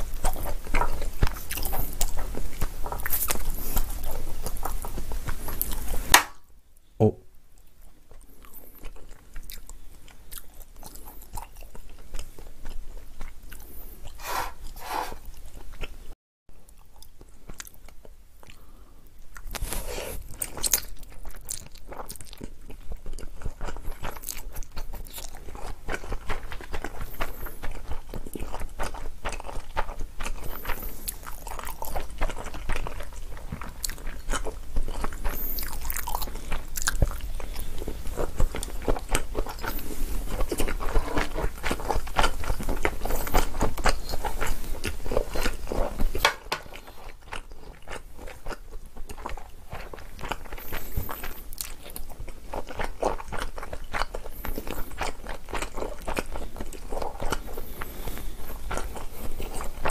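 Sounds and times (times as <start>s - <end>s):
wet chewing sounds: 0.0s - 6.3s, 7.6s - 16.0s, 16.6s - 59.9s.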